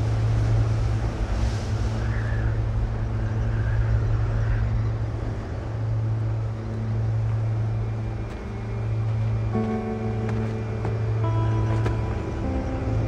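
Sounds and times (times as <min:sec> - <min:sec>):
low droning hum: 0:00.0 - 0:13.0
windy hiss: 0:00.0 - 0:13.0.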